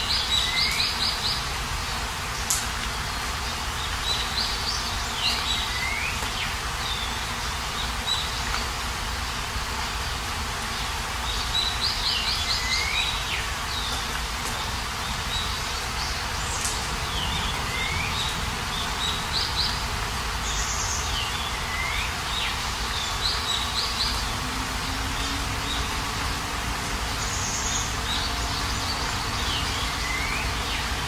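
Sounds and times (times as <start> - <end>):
songbird singing: 0.0 - 31.0
steady rain falling: 0.0 - 31.0.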